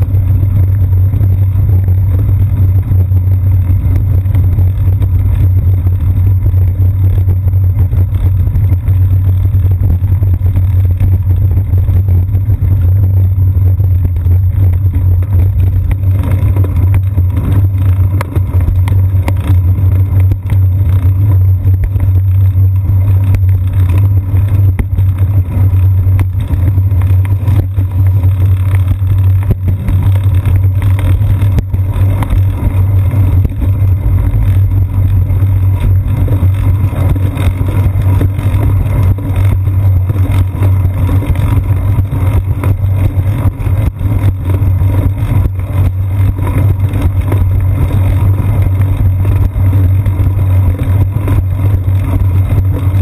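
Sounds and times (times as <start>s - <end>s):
bicycle rolling over pavement: 0.0s - 53.0s.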